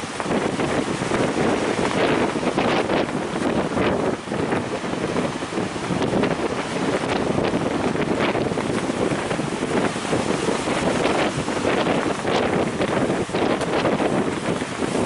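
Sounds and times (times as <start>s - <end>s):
heavy surf rushing: 0.0s - 15.0s
wind buffeting microphone: 0.0s - 15.0s.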